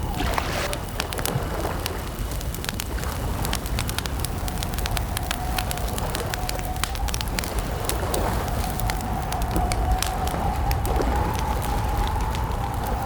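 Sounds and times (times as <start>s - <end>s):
campfire crackling and popping: 0.0s - 13.0s
low rumble of flames: 0.0s - 13.0s.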